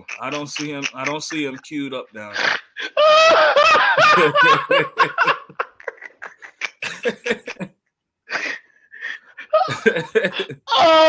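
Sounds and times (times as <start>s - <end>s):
man laughing hard: 0.0s - 7.7s, 9.4s - 11.0s.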